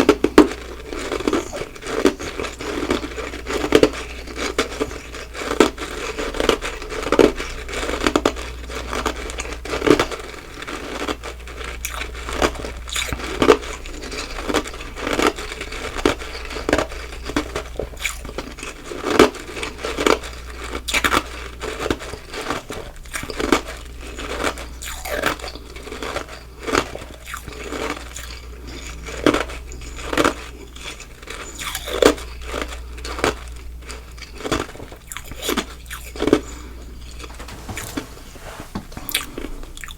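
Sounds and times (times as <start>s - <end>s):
chewing crunchy ice: 0.0s - 37.5s, 39.0s - 39.9s.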